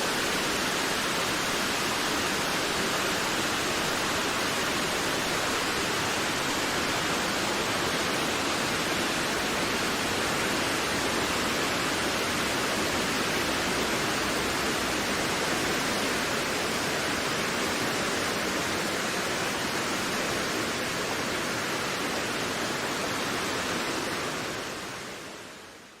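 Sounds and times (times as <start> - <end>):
wind blowing steadily: 0.0 - 26.0.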